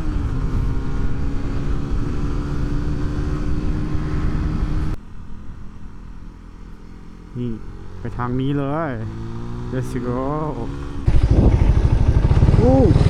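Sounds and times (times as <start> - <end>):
road rumble: 0.0 - 13.0
vehicle engine humming: 0.0 - 13.0.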